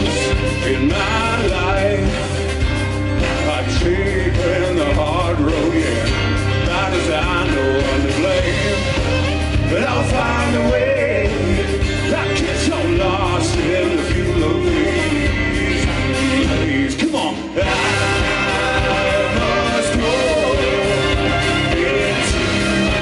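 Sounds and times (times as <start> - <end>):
person singing: 0.0 - 2.6, 3.2 - 23.0
live rock band: 0.0 - 23.0.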